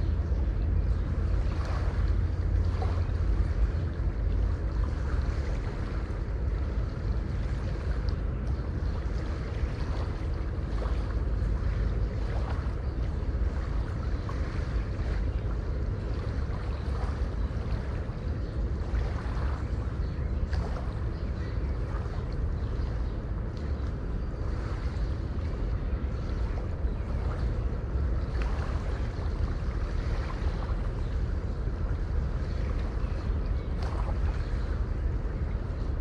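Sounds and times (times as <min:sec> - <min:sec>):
deep rumble of surf: 0:00.0 - 0:36.0
sea waves splashing: 0:00.0 - 0:36.0.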